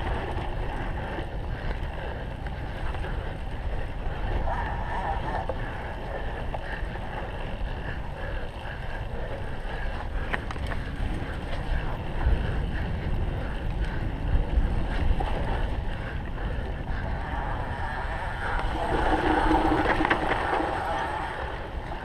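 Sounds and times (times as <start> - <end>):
bike rattling over rough ground: 0.0 - 22.0
tyre and drivetrain rumble: 0.0 - 22.0
wind buffeting microphone: 0.0 - 22.0.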